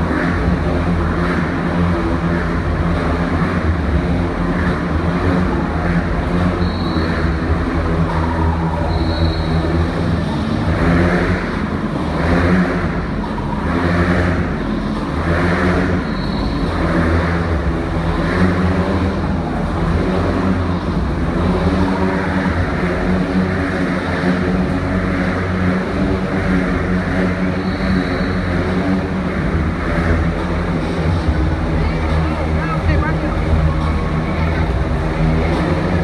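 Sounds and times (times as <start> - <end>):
motorcycle engines running hard: 0.0 - 36.0.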